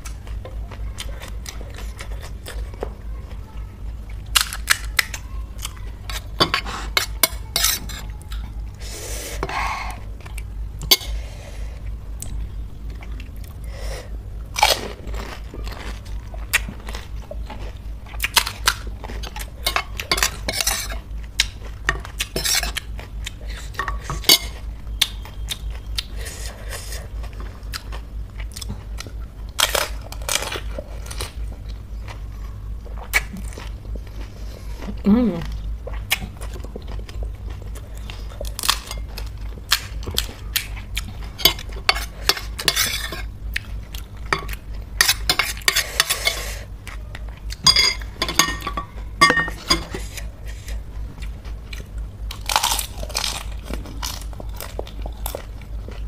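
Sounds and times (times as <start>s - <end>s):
crunching and chewing: 0.0s - 8.8s, 14.4s - 56.0s
steady low hum: 0.0s - 56.0s.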